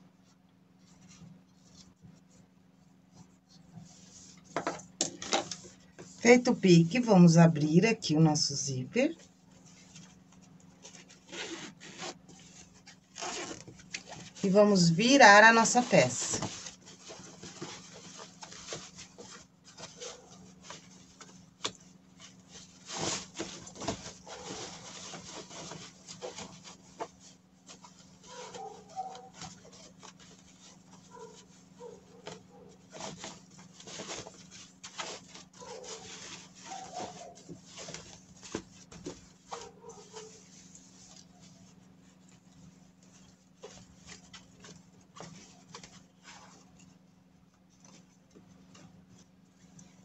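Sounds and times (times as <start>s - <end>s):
fabric rustling: 0.0s - 50.0s.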